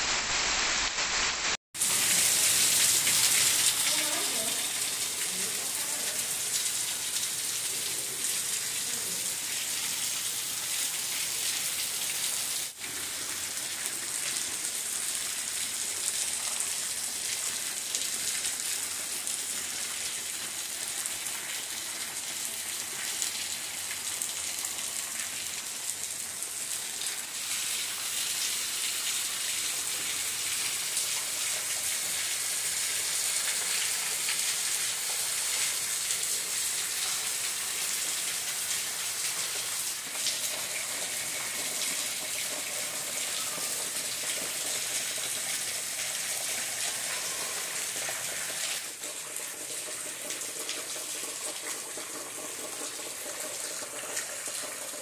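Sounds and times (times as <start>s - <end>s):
heavy rain on roofs and paving: 0.0s - 55.0s.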